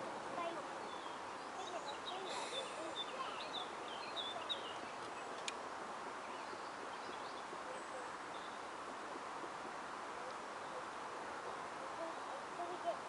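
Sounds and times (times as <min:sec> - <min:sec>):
birds chirping: 0:00.0 - 0:13.0
faint outdoor hiss: 0:00.0 - 0:13.0.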